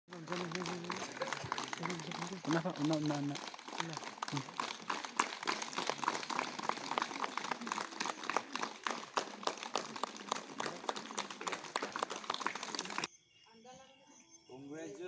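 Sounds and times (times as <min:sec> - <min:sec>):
audience applause: 0:00.1 - 0:13.1.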